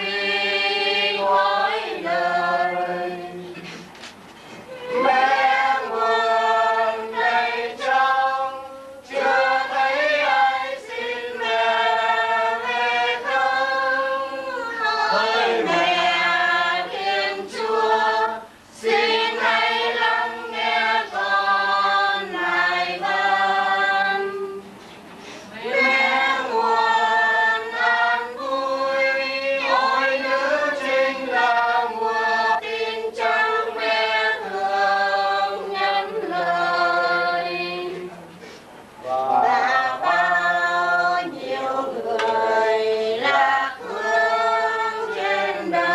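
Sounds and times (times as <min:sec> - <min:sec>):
group singing a hymn: 0:00.0 - 0:45.9.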